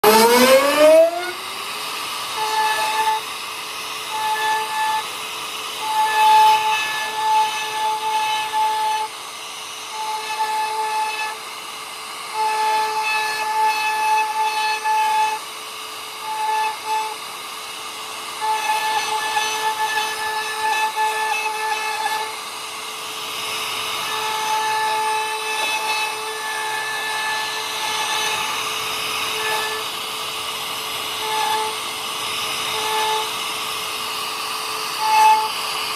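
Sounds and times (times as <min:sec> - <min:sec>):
rotary carving tool whine: 0:00.0 - 0:35.9.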